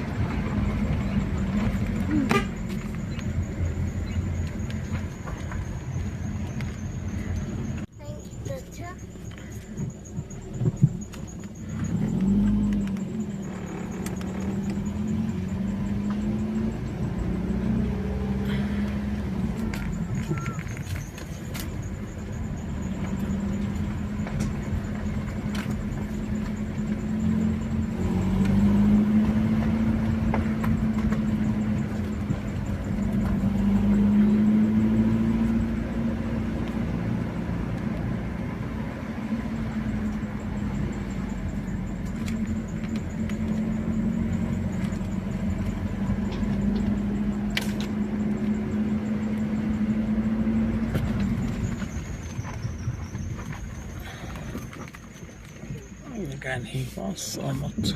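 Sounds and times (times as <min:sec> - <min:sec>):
car engine revving: 0:00.0 - 0:57.9
low road rumble: 0:00.0 - 0:57.9.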